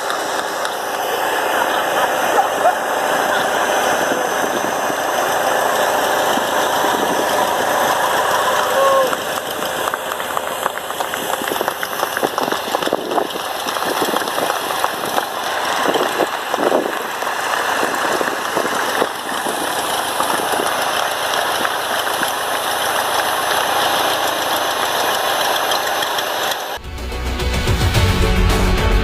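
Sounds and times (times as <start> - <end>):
airplane engine running: 0.0 - 29.0.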